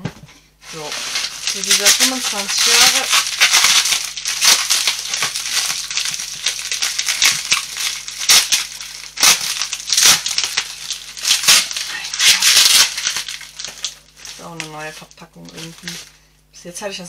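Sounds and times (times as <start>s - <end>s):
plastic bag crinkling: 0.6s - 16.2s.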